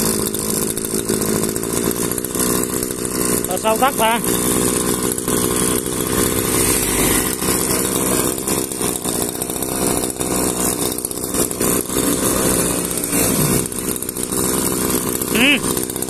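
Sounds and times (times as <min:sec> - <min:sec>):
two-stroke grass cutter engine: 0:00.0 - 0:16.0.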